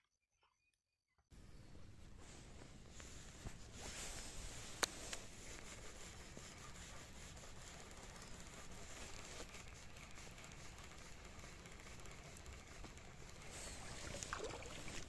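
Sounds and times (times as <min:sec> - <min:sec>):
outdoor background hiss: 0:01.4 - 0:15.0
small crackles: 0:01.4 - 0:15.0
light rustling: 0:01.6 - 0:15.0.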